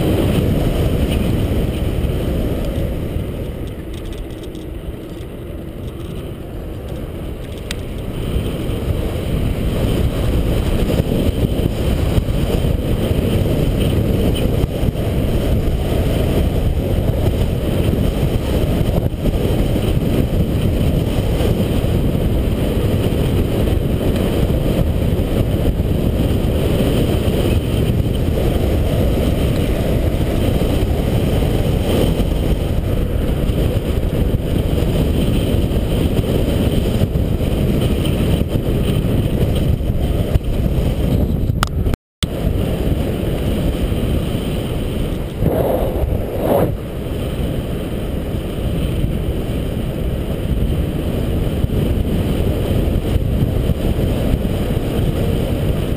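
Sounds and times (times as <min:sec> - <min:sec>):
bike tyres rolling on tarmac: 0:00.0 - 0:55.9
wind buffeting microphone: 0:00.0 - 0:55.9.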